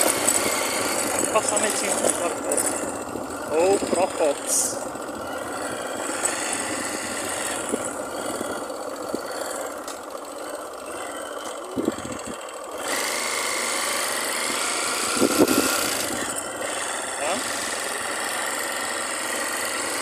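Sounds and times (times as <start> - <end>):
wind and road noise: 0.0 - 10.8, 11.5 - 20.0
motorcycle engine running: 0.0 - 20.0.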